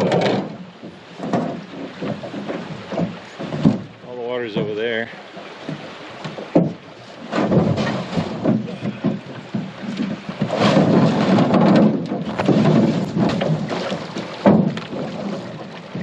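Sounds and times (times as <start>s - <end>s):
sharp knocks of canoe hull: 0.0s - 4.0s, 5.2s - 16.0s
canoe hull dragged and scraping: 0.0s - 16.0s.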